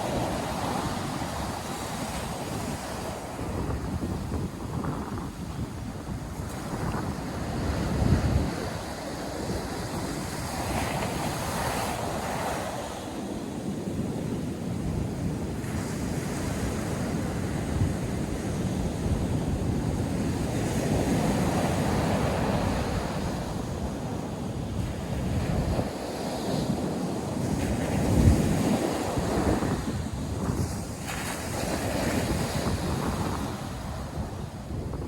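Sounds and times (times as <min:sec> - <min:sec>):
surf breaking on a beach: 0:00.0 - 0:35.0
wind buffeting the microphone: 0:00.0 - 0:35.0.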